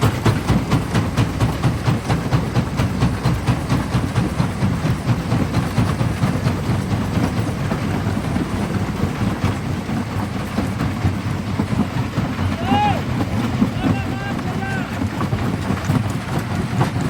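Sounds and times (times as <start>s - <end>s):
heavy low rumble: 0.0s - 17.0s.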